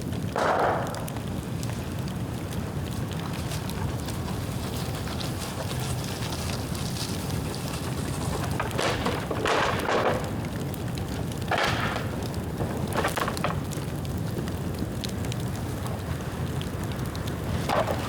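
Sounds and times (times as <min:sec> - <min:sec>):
bonfire rumbling and crackling: 0:00.0 - 0:18.0.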